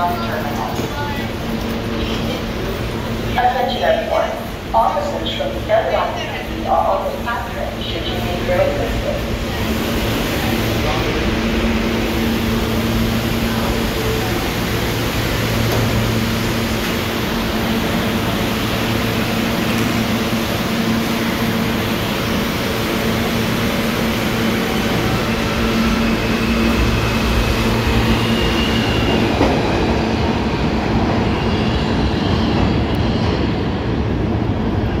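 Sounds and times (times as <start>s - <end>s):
wheel and rail rumble: 0.0s - 35.0s.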